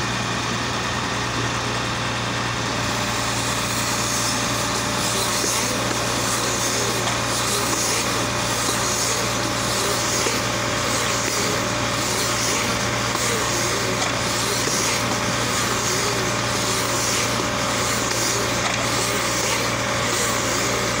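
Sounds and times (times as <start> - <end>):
baler wrapper machine hum: 0.0 - 21.0.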